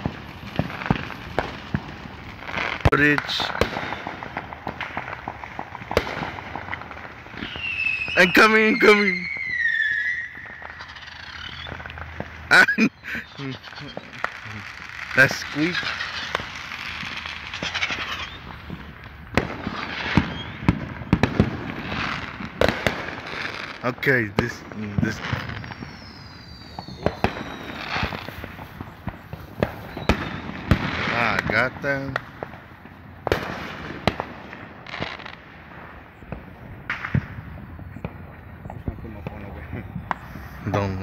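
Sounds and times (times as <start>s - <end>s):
fireworks bangs: 0.0s - 41.0s.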